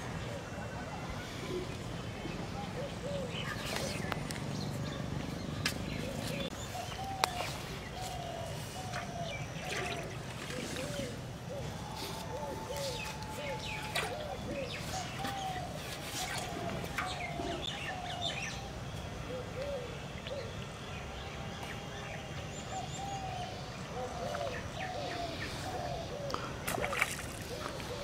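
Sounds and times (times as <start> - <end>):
birds calling: 0.0 - 20.8, 22.5 - 28.0
steady low background noise: 0.0 - 28.0.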